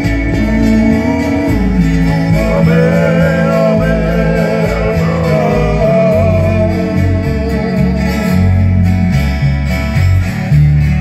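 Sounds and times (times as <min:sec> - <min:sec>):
man singing: 0:00.0 - 0:09.0
bass line: 0:00.0 - 0:11.0
strummed acoustic guitars: 0:00.0 - 0:11.0.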